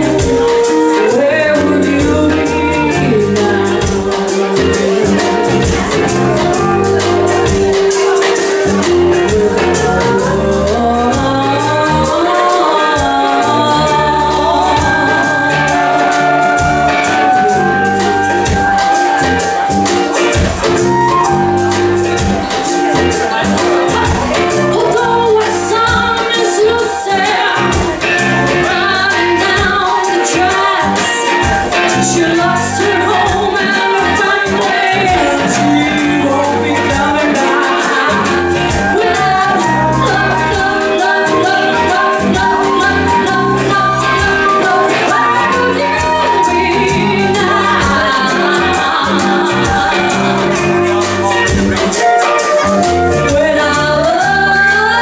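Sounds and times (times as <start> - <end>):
congas: 0.0 - 55.0
drum kit: 0.0 - 55.0
electric guitar: 0.0 - 55.0
person singing: 0.0 - 55.0.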